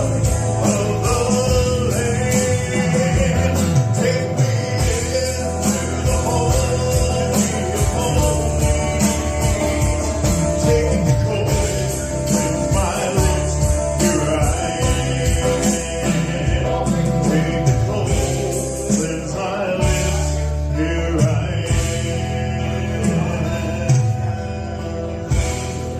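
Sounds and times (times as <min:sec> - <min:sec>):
drums and cymbals: 0:00.0 - 0:25.9
live gospel band playing: 0:00.0 - 0:25.9
low bass notes: 0:00.0 - 0:25.9.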